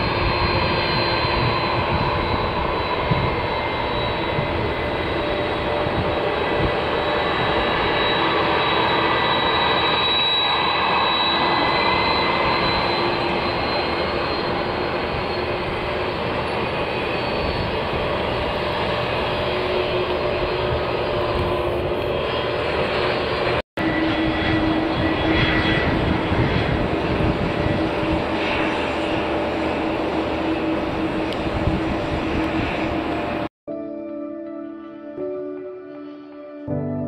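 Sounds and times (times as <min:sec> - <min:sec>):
jet engine with fan whine: 0:00.0 - 0:33.5.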